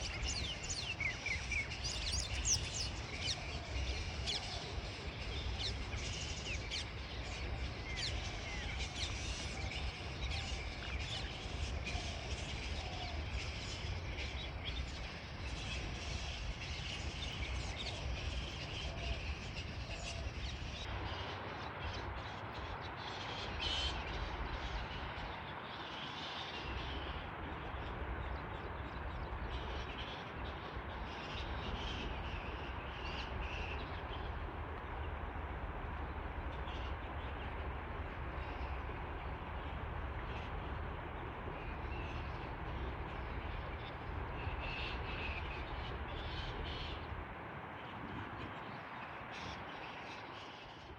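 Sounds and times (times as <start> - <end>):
birds chirping and calling: 0.0 - 50.9
low outdoor rumble: 0.0 - 50.9.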